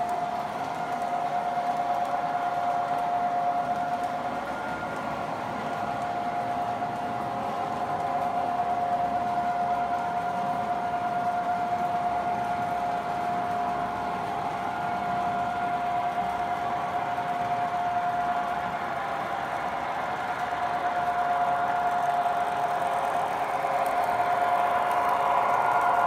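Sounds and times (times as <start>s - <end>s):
model locomotive whine: 0.0s - 26.0s.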